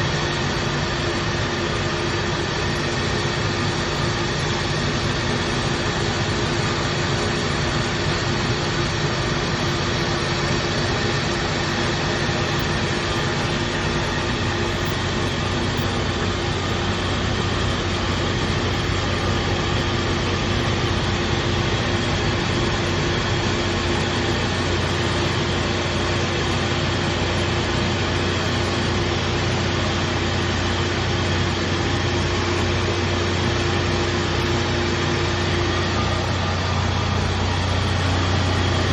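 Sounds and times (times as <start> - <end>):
rice milling machine whirring: 0.0 - 38.9.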